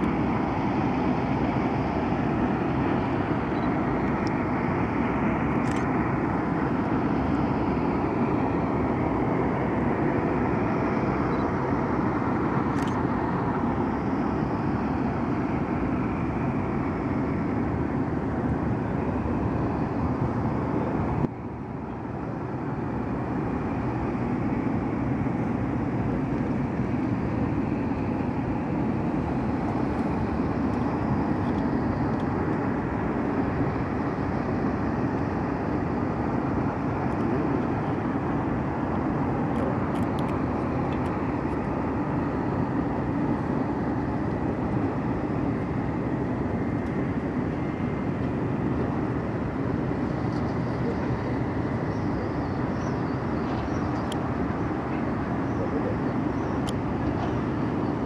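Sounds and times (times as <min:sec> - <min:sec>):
airfield rumble: 0:00.0 - 0:58.0.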